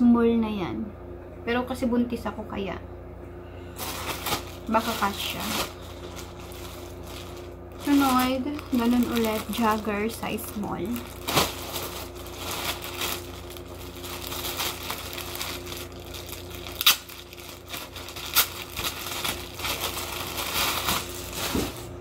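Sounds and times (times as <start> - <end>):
plastic bag crinkling: 3.7 - 22.0.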